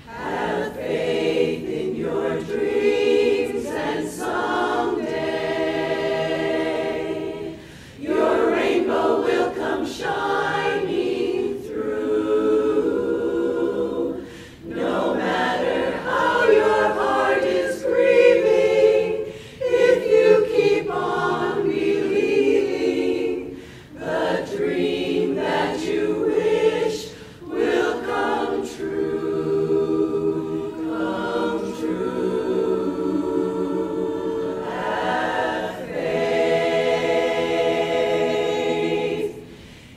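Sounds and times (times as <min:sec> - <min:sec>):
women's chorus singing a cappella: 0:00.0 - 0:39.9.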